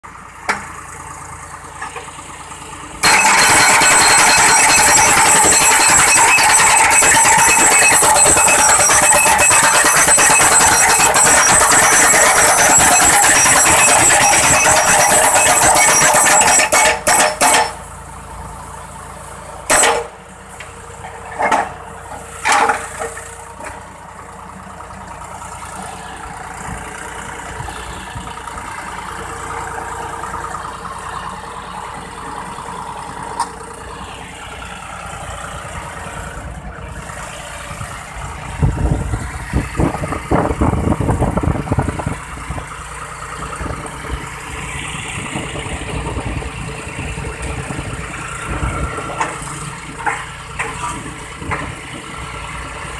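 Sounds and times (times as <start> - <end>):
machine engine running: 0.3 - 52.9.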